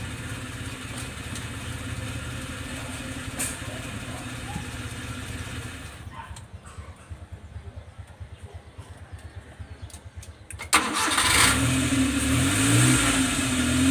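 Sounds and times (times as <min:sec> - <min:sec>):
engine idling: 0:00.0 - 0:12.2.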